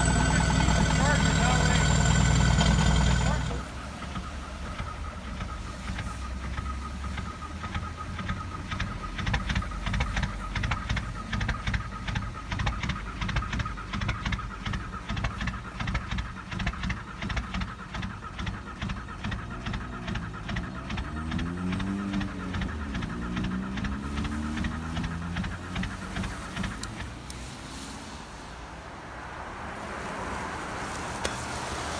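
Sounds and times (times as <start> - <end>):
diesel engine clattering: 0.0 - 27.8.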